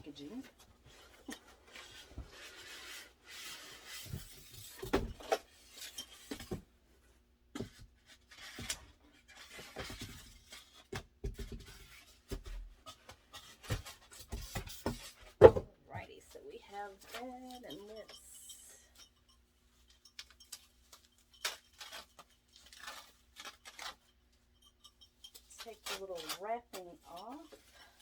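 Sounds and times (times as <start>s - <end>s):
packaging rustling and scraping: 0.1s - 6.7s, 7.6s - 28.0s.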